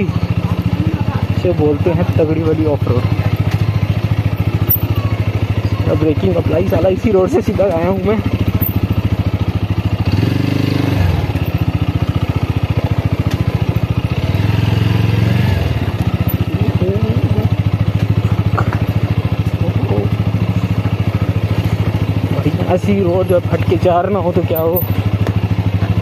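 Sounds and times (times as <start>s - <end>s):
motorcycle engine chugging: 0.0s - 26.0s.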